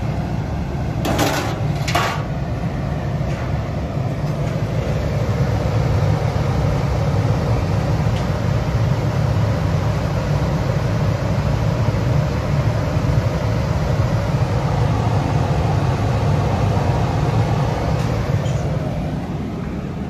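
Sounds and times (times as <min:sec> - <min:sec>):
furnace blower running: 0:00.0 - 0:20.0.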